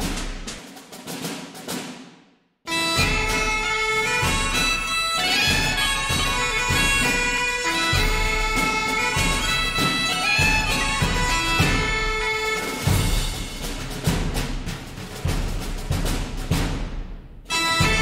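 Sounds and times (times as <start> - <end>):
percussion strokes: 0.0 - 18.0.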